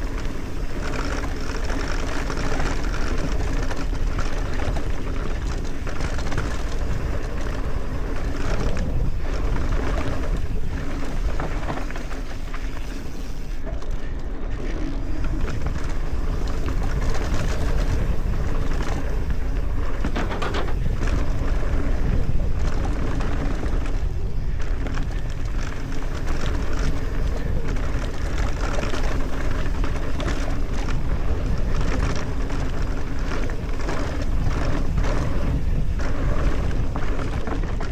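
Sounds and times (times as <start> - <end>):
bike knocking and rattling: 0.0 - 37.9
bike tyre noise: 0.0 - 37.9
wind rush on microphone: 0.0 - 37.9.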